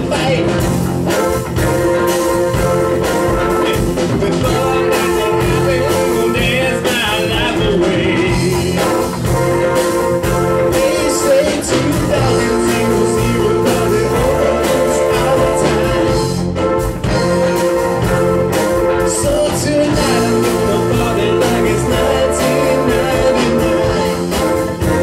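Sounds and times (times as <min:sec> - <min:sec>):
lead vocal singing: 0:00.0 - 0:16.6, 0:17.4 - 0:25.0
live rock band playing: 0:00.0 - 0:25.0.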